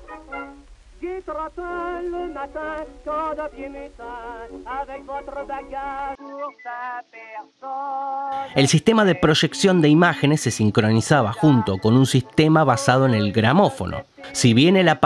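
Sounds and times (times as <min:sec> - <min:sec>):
man singing with vibrato: 0:00.1 - 0:15.0.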